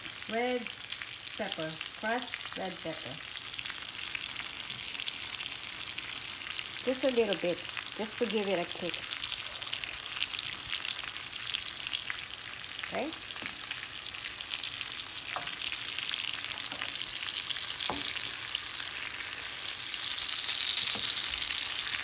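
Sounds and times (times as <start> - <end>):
shrimp sizzling in a pan: 0.0 - 22.0.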